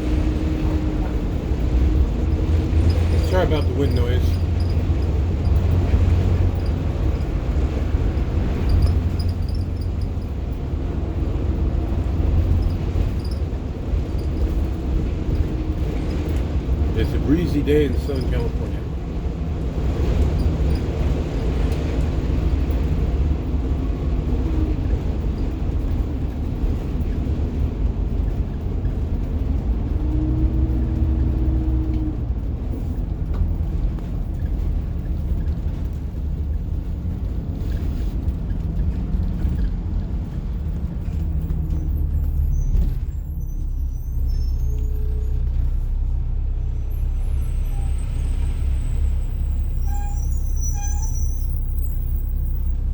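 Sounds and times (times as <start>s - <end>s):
diesel bus engine humming: 0.0s - 52.9s.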